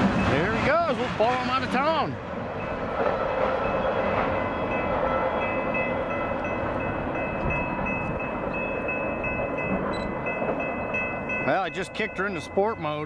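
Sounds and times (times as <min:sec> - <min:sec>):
freight train running: 0:00.0 - 0:13.0.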